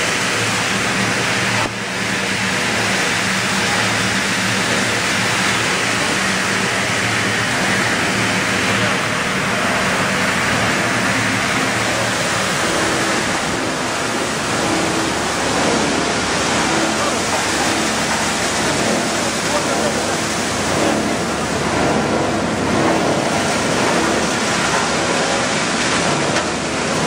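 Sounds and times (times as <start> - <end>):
low motor hum: 0.0 - 27.0
machinery running: 0.0 - 27.0.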